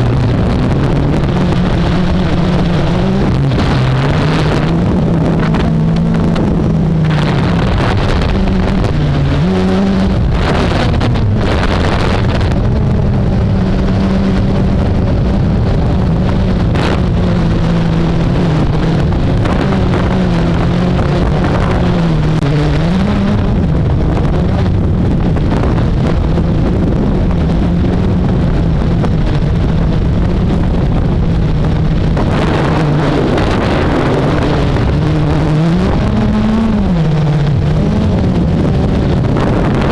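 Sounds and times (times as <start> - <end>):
quadcopter propellers humming: 0.0 - 39.9
wind rumble on microphone: 0.0 - 39.9.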